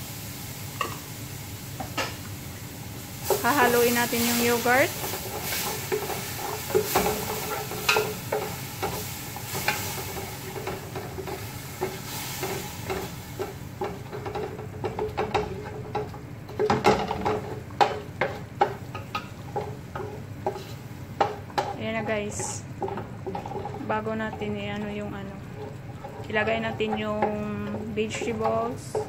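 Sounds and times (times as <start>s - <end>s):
mixture sizzling in oil: 0.0s - 29.0s
utensil stirring and scraping pot: 3.2s - 29.0s
utensil clacking against metal pot: 4.9s - 29.0s.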